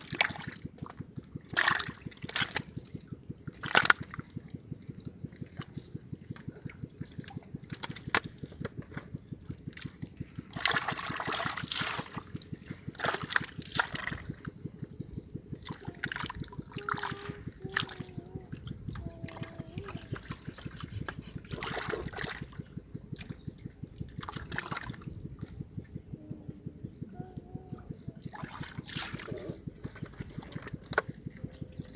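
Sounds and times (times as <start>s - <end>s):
splashing: 0.0s - 9.1s, 9.7s - 14.6s, 15.6s - 25.7s, 28.2s - 31.9s
muddy water sloshing: 0.0s - 31.9s
rapid low pulsing: 0.0s - 31.9s.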